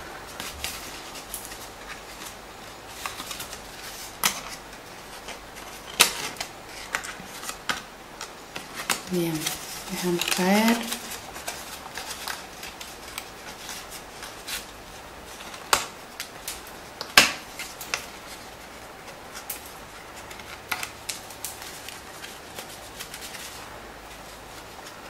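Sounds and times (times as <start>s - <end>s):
paper rustling: 0.0s - 25.0s.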